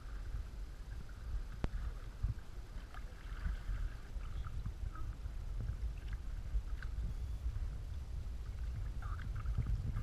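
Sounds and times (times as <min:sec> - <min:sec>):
low uneven rumble: 0:00.0 - 0:10.0.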